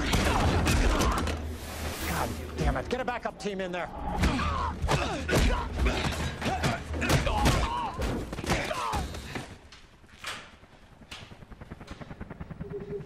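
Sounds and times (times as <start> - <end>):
low droning film score: 0.0 - 13.0.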